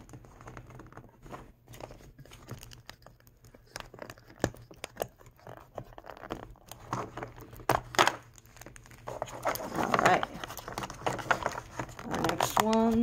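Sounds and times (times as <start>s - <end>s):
plastic wrapping crinkling and tearing: 0.0s - 13.0s.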